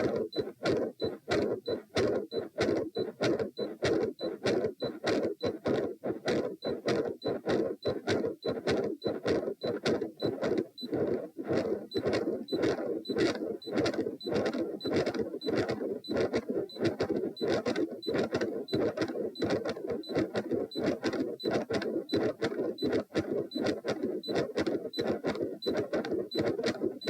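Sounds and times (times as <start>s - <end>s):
heartbeat through stethoscope: 0.0s - 27.0s.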